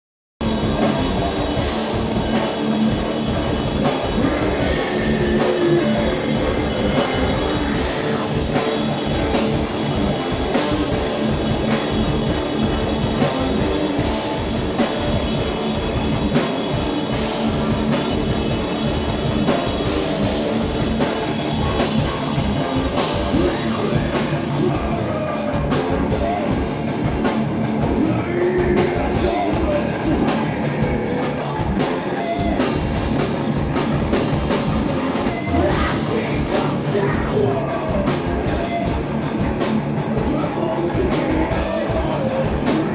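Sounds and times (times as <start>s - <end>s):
fast drum hits: 0.4s - 42.9s
live rock band playing: 0.4s - 42.9s.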